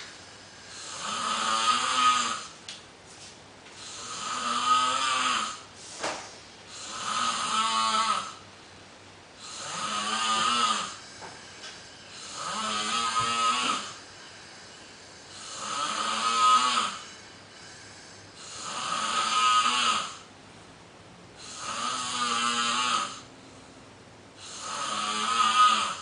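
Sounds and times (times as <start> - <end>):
loud buzzy snoring: 0.0 - 2.6, 3.8 - 5.7, 6.7 - 8.4, 9.4 - 20.3, 21.4 - 23.3, 24.4 - 26.0.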